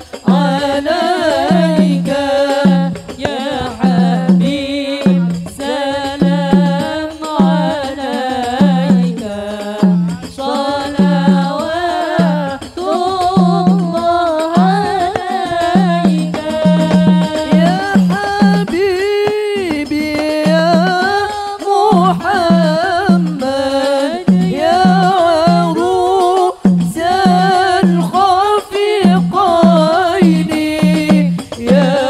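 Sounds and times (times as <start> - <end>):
women singing devotional song: 0.0 - 32.0
low drum beat: 0.2 - 21.2, 24.2 - 32.0.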